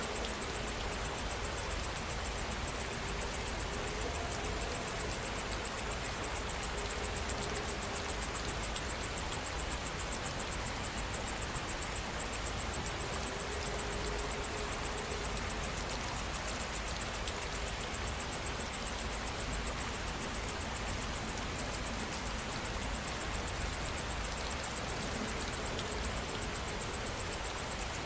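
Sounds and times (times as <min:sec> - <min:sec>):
insect chirping: 0:00.0 - 0:28.0
rain falling: 0:00.0 - 0:28.0.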